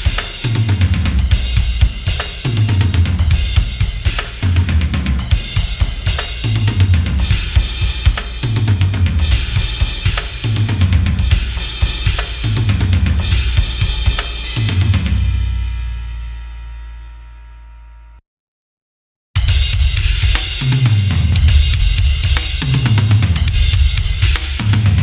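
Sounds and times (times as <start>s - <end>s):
fast metal drum groove: 0.0s - 15.9s, 19.4s - 25.0s.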